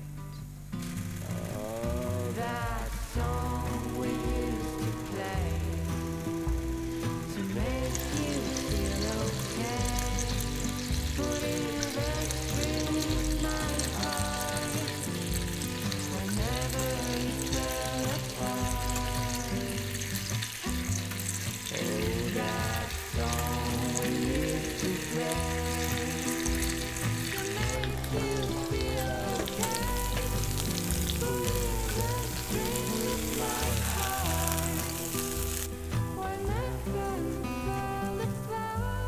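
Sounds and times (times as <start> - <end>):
background music: 0.0 - 39.0
panini sizzling in a press: 0.7 - 39.0.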